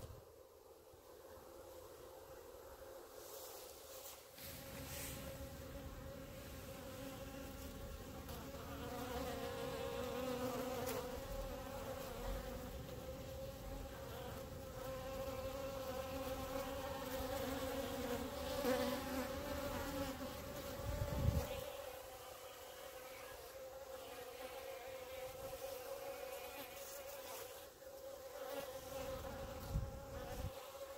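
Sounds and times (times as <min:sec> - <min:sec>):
honeybees buzzing: 0:00.0 - 0:30.9.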